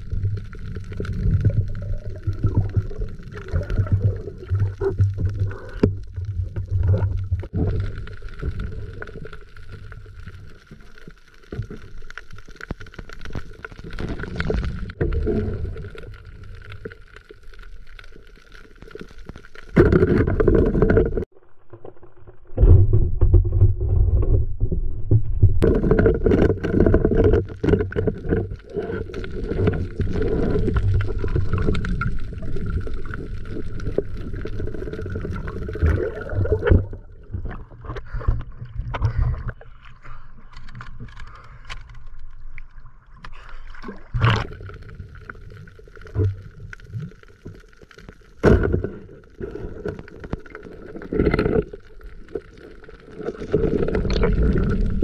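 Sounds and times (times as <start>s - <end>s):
water sloshing underwater: 0.0s - 55.0s.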